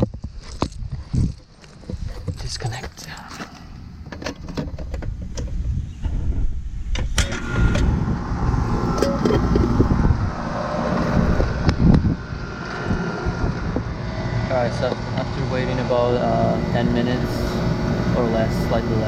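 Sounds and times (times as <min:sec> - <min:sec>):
air conditioner unit humming: 0:02.7 - 0:19.0.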